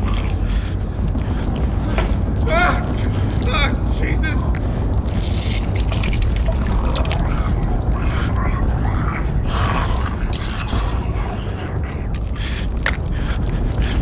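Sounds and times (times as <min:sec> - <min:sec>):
constant low rumble: 0:00.0 - 0:14.0
creaking and clicking: 0:00.0 - 0:14.0.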